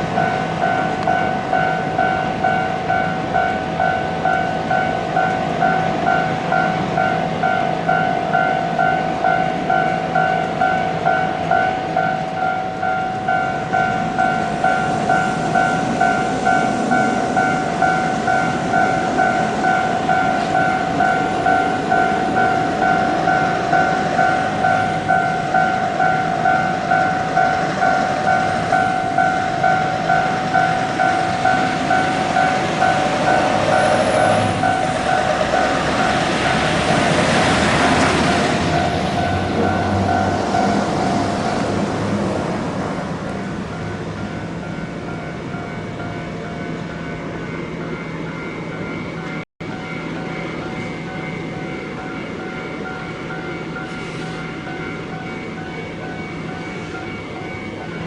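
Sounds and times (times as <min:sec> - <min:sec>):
railroad crossing bell ringing: 0:00.0 - 0:58.0.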